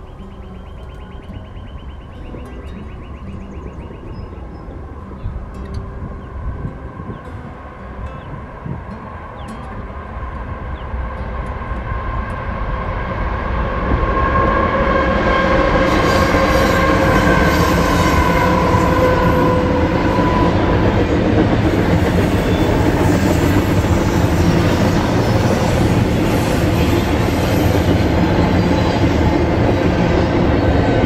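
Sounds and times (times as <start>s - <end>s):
freight train rumbling on rails: 0.0s - 31.0s
steady whine: 0.0s - 31.0s.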